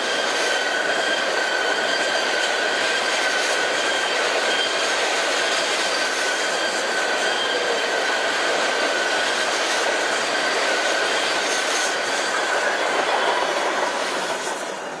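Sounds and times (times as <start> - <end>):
high wheel squeal: 0.0 - 15.0
locomotive passing: 0.0 - 15.0
train wheels rumbling on rail: 0.0 - 15.0.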